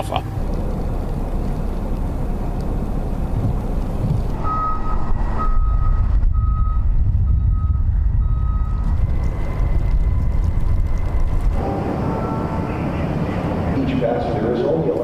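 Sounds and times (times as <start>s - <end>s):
truck reversing alarm beeping: 0.0s - 13.9s
low engine rumble: 0.0s - 15.0s.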